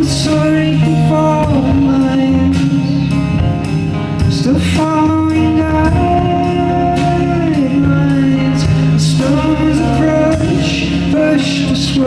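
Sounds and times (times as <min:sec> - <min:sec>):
live band with singing: 0:00.0 - 0:12.0.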